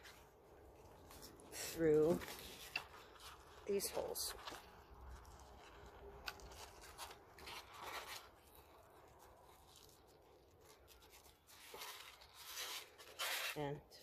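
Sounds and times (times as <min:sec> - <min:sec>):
paper and ribbon rustling: 0:00.0 - 0:14.0.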